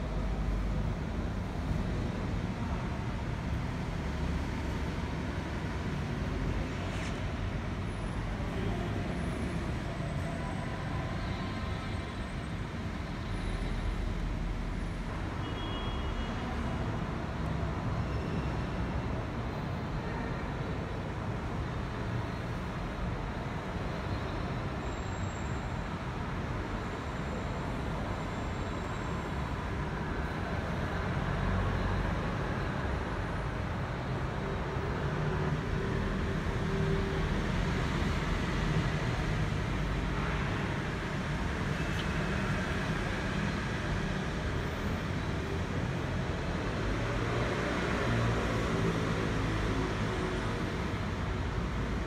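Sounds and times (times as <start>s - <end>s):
railway station background rumble: 0.0s - 52.0s.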